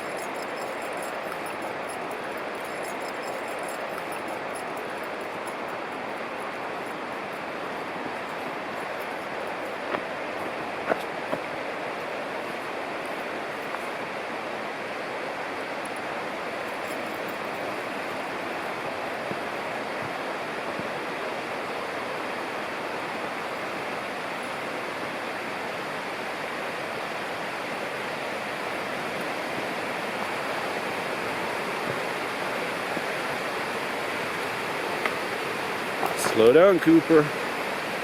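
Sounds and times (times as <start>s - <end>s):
mountain river rushing: 0.0s - 38.0s.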